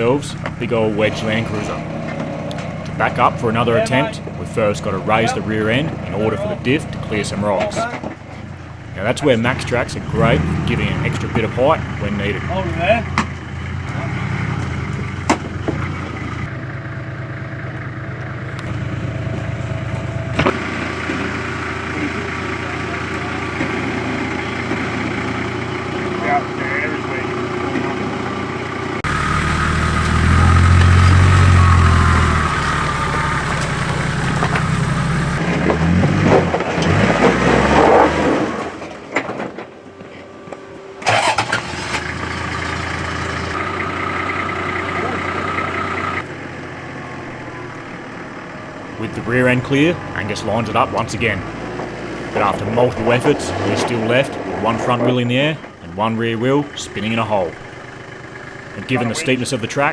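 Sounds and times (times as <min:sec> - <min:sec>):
engine idling: 0:00.0 - 0:26.2, 0:27.3 - 0:35.4, 0:41.1 - 0:59.9.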